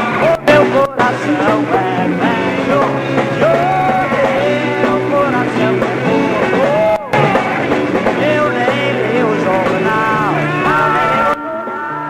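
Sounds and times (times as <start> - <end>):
bass line: 0.0 - 12.0
guitar: 0.0 - 12.0
man singing rock song: 0.0 - 12.0.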